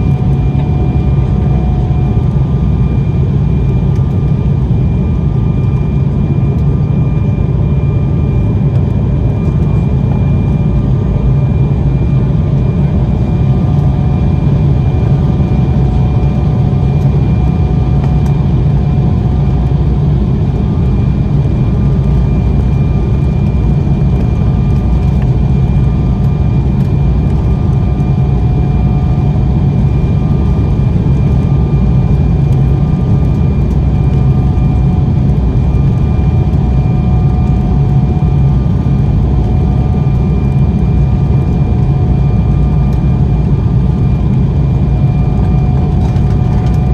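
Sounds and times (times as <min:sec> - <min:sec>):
airliner cabin engine rumble: 0:00.0 - 0:46.9
faint steady whining tones: 0:00.0 - 0:46.9.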